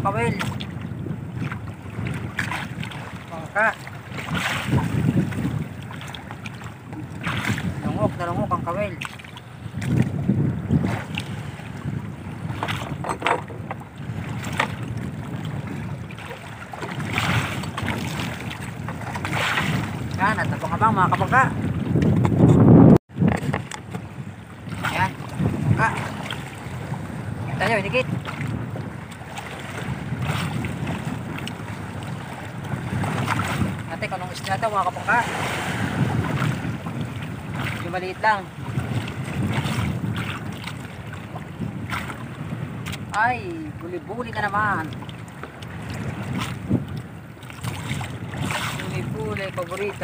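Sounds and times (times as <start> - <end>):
water lapping against boat hull: 0.0 - 50.0
wind buffeting microphone: 0.0 - 50.0.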